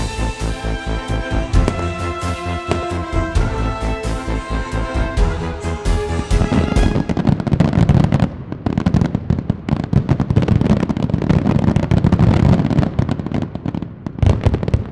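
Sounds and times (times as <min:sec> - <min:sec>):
fireworks bangs and crackle: 0:00.0 - 0:14.9.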